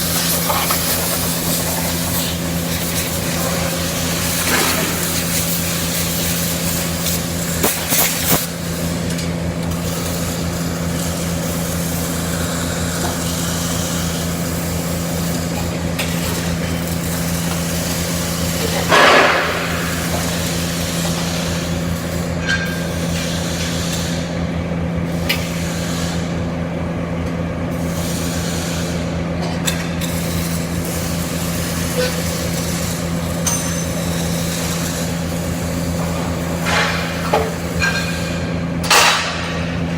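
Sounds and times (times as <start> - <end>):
welding hum and hiss: 0.0 - 39.9.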